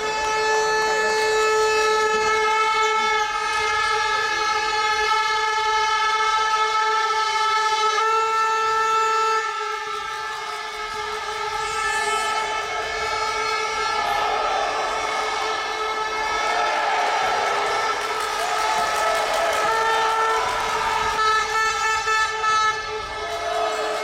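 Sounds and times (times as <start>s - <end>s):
horn-like drone: 0.0s - 24.0s.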